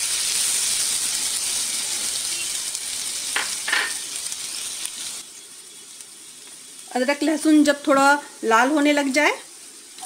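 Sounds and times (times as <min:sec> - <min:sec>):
spices sizzling in hot fat: 0:00.0 - 0:10.0.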